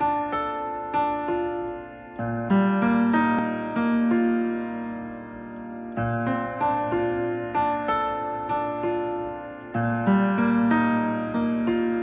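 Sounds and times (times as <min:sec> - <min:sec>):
piano-like keyboard music: 0:00.0 - 0:12.0.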